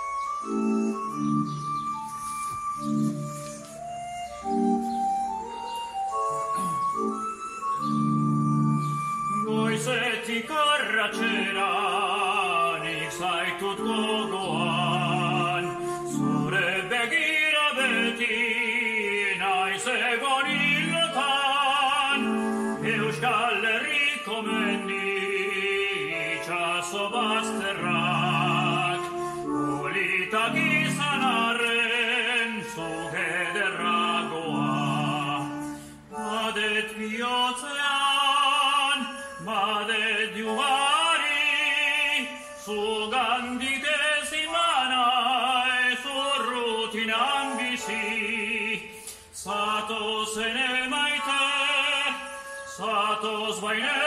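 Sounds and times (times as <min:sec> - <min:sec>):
man singing operatically: 0:09.2 - 0:54.0.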